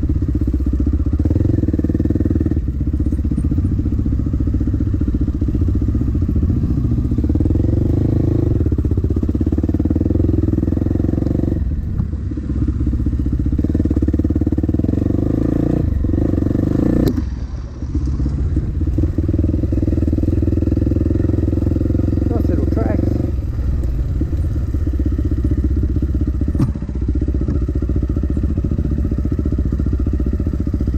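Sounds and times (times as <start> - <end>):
dirt bike engine revving: 0.7 - 11.7, 12.5 - 17.2, 18.1 - 30.9.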